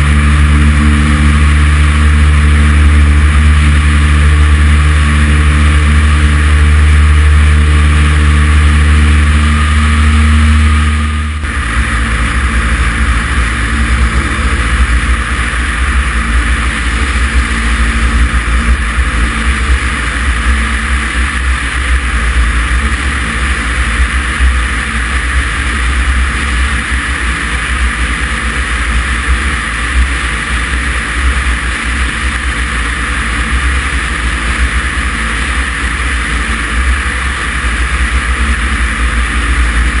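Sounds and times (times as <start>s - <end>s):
light aircraft engine droning: 0.0s - 40.0s.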